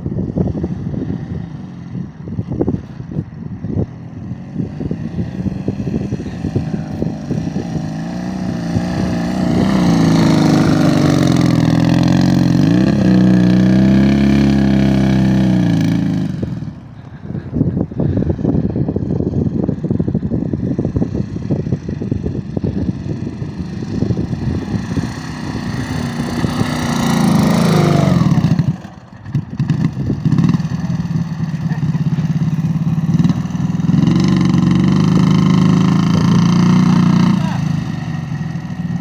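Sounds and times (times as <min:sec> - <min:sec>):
motorcycle engine revving hard: 0:00.0 - 0:39.0.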